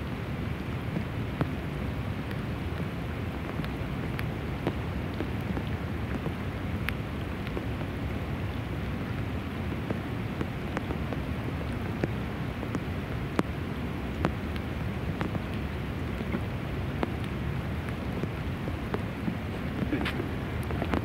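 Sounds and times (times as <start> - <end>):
rain falling on a river: 0.0 - 21.0
raindrops ticking close by: 0.0 - 21.0.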